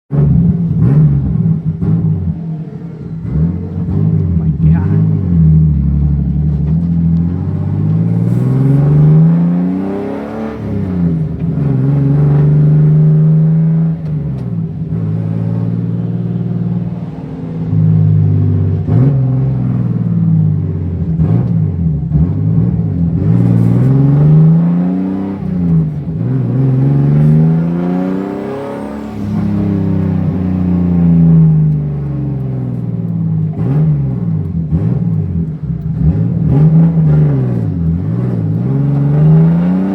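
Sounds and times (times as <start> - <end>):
race car engine revving: 0.1 - 39.9.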